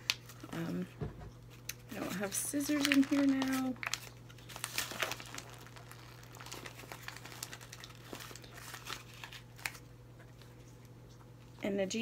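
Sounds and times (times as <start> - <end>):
wrapping crinkling: 1.5 - 11.6.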